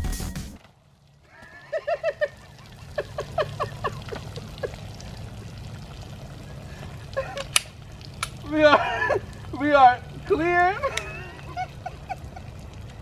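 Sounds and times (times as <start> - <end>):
liquid glugging and pouring: 0.8 - 13.0.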